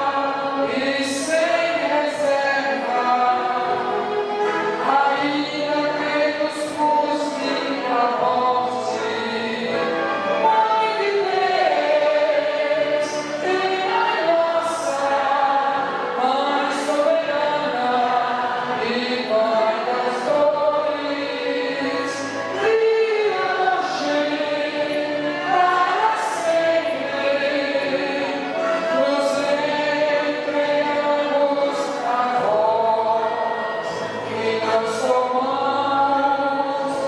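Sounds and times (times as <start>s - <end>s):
crowd singing a hymn: 0.0s - 37.0s.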